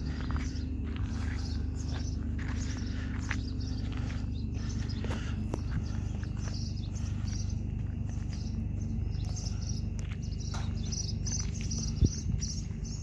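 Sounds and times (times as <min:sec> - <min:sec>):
insects chirping: 0:00.0 - 0:13.0
low steady rumble: 0:00.0 - 0:13.0.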